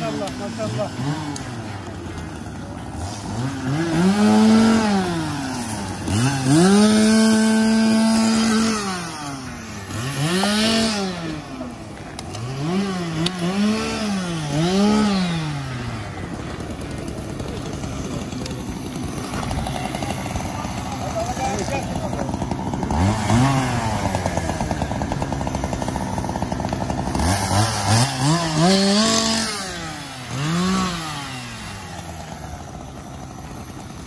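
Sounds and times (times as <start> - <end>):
chainsaw revving and cutting: 0.0 - 34.0.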